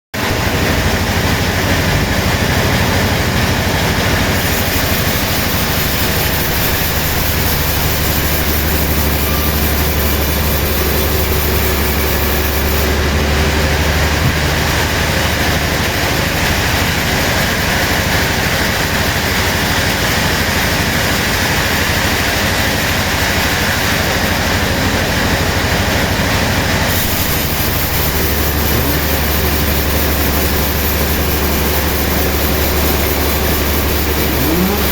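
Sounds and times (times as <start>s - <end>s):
sawmill machinery running: 0.2s - 34.9s.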